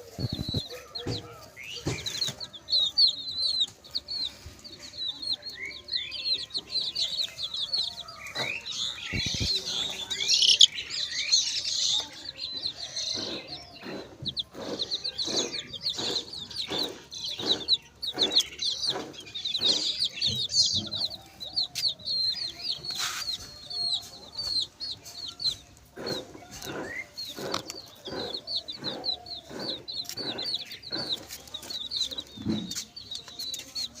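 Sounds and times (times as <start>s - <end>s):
chicks peeping: 0.0s - 34.0s
hen clucking: 0.0s - 34.0s.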